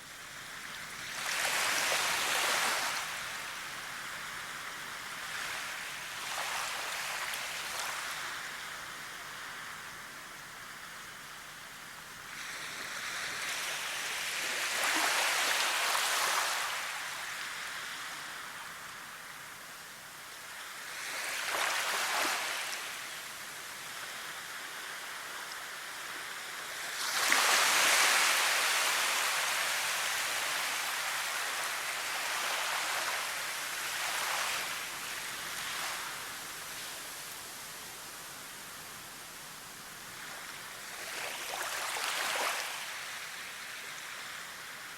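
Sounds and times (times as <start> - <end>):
waves washing on shore: 1.0 - 9.9, 12.3 - 18.7, 20.5 - 44.9.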